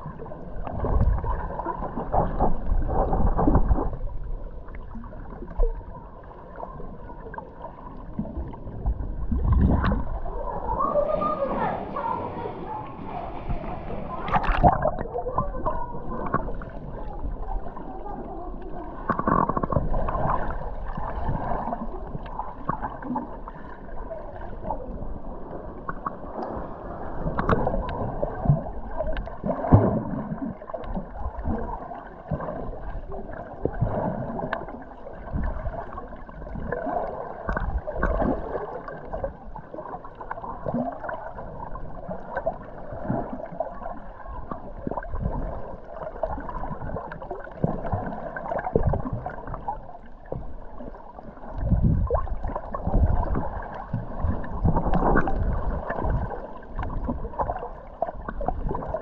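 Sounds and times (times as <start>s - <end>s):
underwater gurgling and sloshing: 0.0s - 59.0s.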